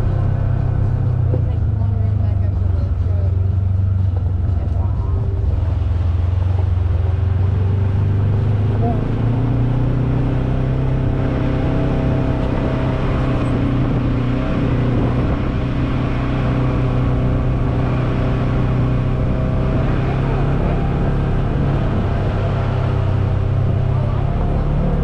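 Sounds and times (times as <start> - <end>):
utility vehicle engine droning: 0.0 - 25.0.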